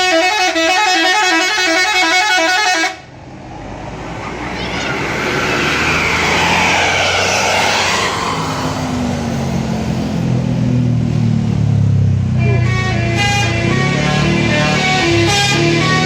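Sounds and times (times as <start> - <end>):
bus diesel engine: 0.0 - 16.0
road noise: 1.8 - 16.0.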